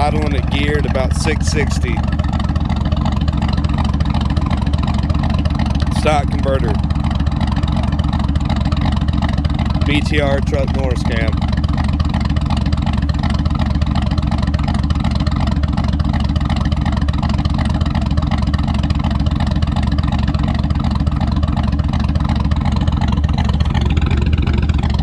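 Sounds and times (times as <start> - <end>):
truck engine idling with lope: 0.0 - 25.0.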